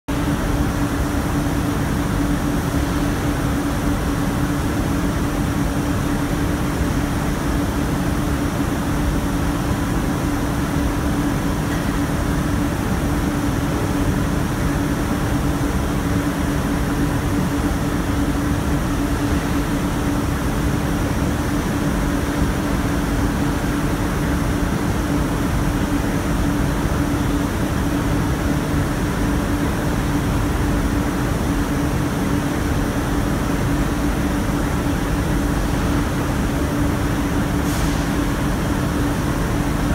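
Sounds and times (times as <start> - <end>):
constant machinery hum: 0.1 - 39.9.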